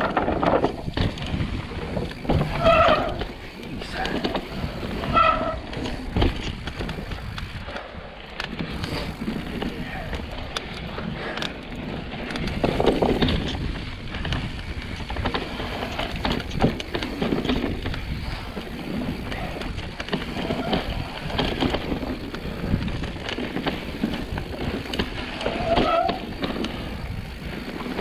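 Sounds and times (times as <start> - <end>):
bike rattles and clicks: 0.0 - 28.0
bike tyres rolling over dirt: 0.0 - 28.0
wind noise on microphone: 0.0 - 28.0.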